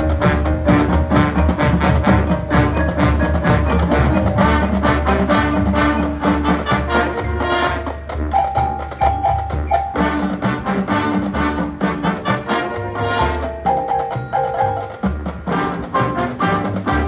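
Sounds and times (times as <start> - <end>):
drum strokes: 0.0 - 17.0
marching band playing: 0.0 - 17.0.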